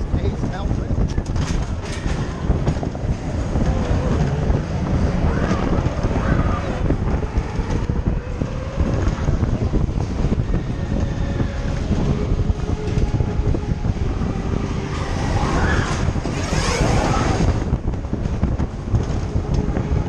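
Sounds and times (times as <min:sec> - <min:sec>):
roller coaster wheels rumbling on rails: 0:00.0 - 0:20.0.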